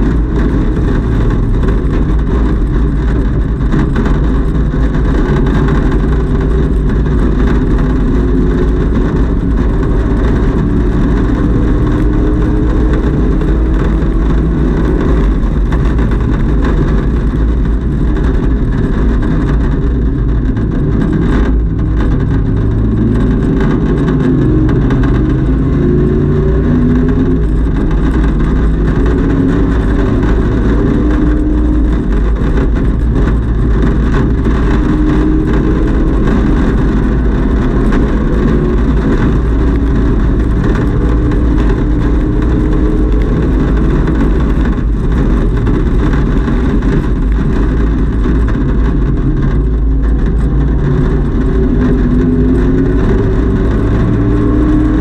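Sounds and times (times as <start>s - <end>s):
race car engine accelerating: 0.0s - 55.0s
road and wind noise: 0.0s - 55.0s.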